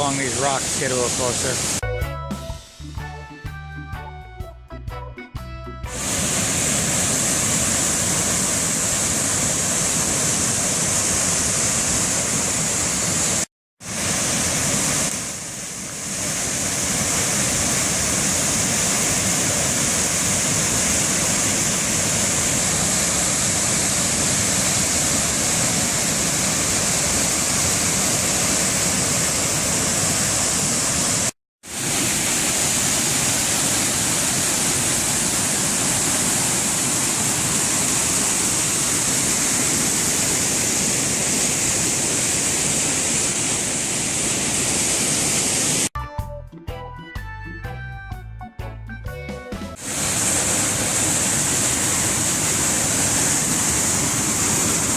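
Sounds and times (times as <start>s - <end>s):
waterfall rushing: 0.0s - 1.8s, 5.9s - 45.9s, 49.8s - 54.9s.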